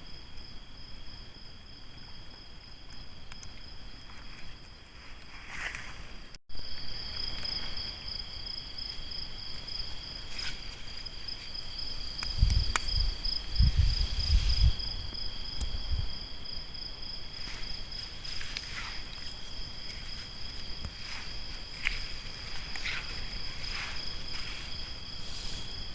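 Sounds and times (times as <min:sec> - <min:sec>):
crickets chirring: 0:00.0 - 0:25.9.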